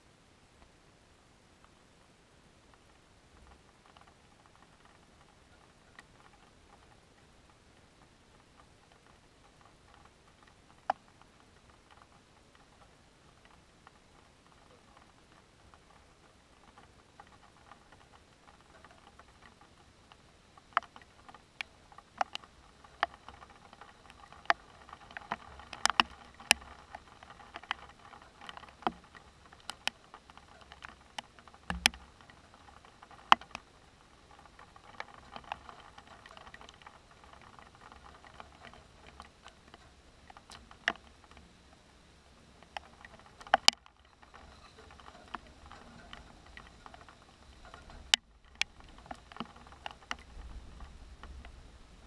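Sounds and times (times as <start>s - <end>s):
soft hiss: 0.0s - 52.0s
large raindrops tapping: 0.4s - 52.0s.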